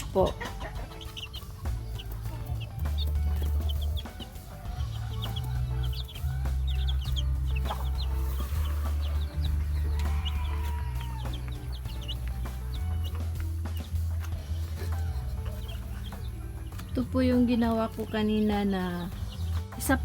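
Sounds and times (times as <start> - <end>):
high-pitched peeps: 0.0 - 19.9
chickens clucking: 0.0 - 20.0
steady low rumble: 0.0 - 20.0.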